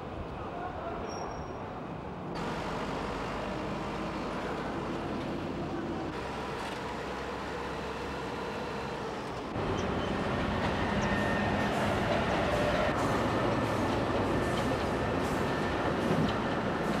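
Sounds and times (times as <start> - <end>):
train rumbling on track: 1.4 - 17.0.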